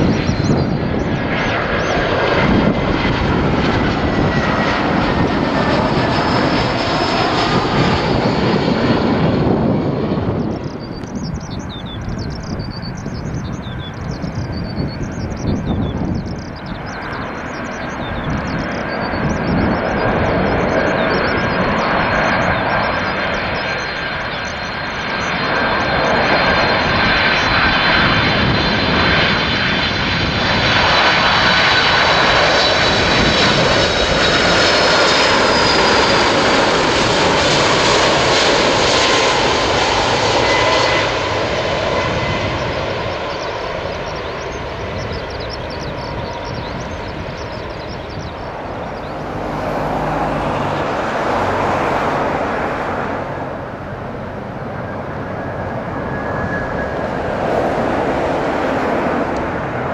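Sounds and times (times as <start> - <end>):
jet engine rumble: 0.0 - 59.9
high fan whine: 1.8 - 27.5, 30.3 - 59.9.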